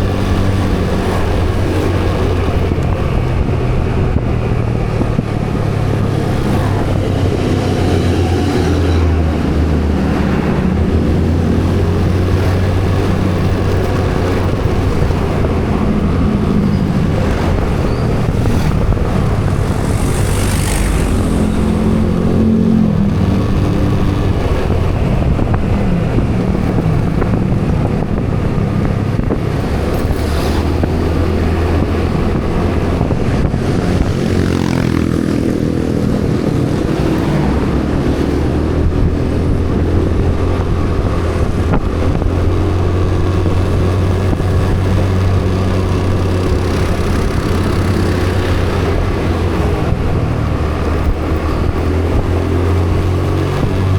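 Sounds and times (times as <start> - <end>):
road and wind noise: 0.0 - 53.9
vehicle engine running: 0.0 - 53.9.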